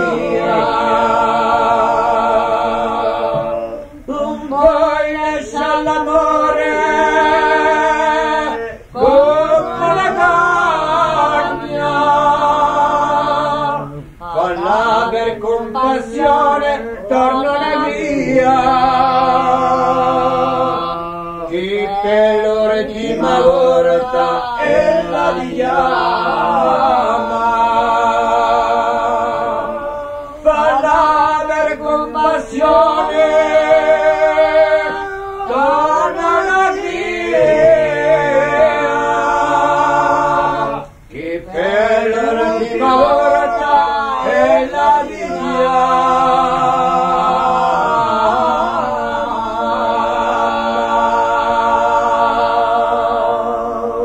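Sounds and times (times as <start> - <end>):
voices singing in harmony: 0.0 - 54.0.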